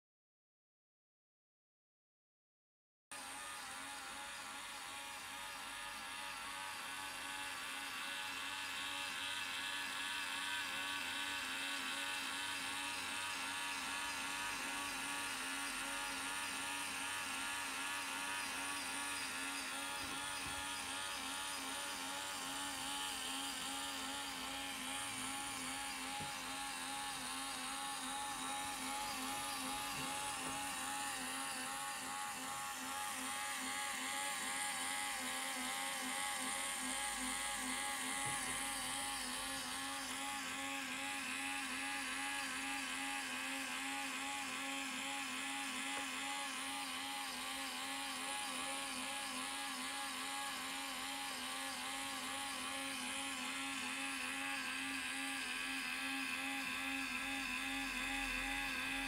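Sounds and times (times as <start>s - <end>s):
motor and gears whirring: 3.1s - 59.0s.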